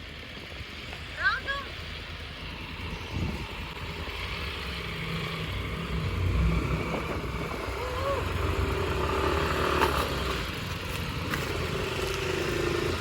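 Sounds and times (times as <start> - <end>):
motorcycle engine running: 0.0 - 6.0, 7.2 - 13.0.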